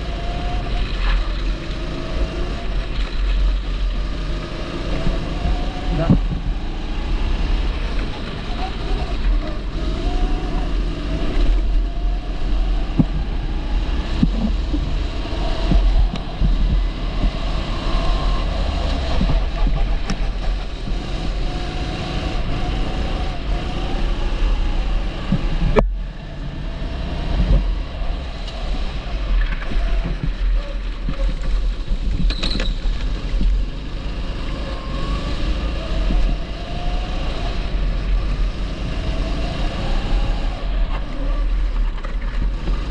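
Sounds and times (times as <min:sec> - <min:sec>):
kart engine running: 0:00.0 - 0:42.9
wind rumble on microphone: 0:00.0 - 0:42.9.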